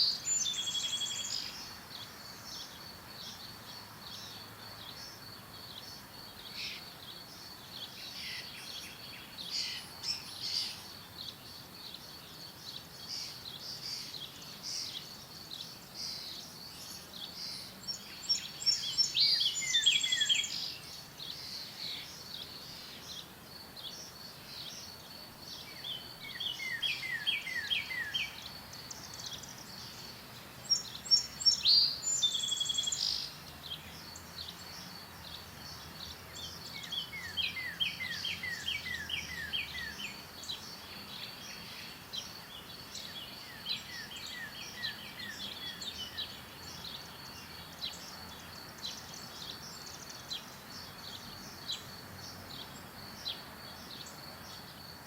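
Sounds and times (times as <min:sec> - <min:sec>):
birds chirping and singing: 0:00.0 - 0:54.8.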